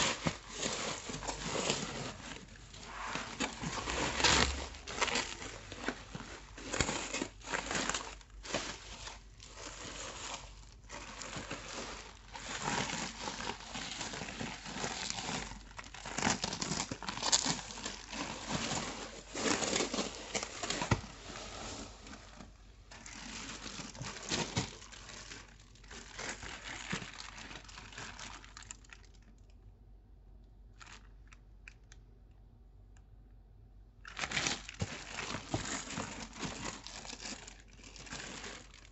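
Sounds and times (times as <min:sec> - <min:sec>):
plastic packaging crinkling: 0:00.0 - 0:29.7, 0:30.7 - 0:32.0, 0:34.0 - 0:38.9.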